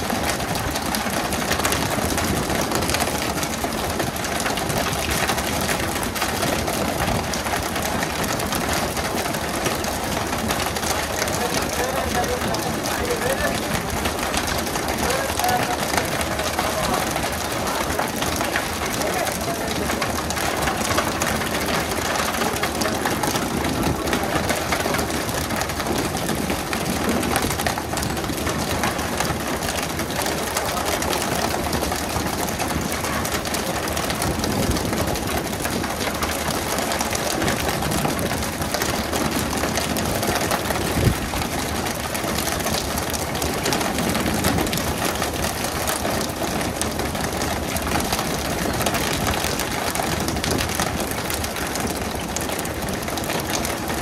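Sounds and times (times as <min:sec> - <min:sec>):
constant wash of noise: 0:00.0 - 0:54.0.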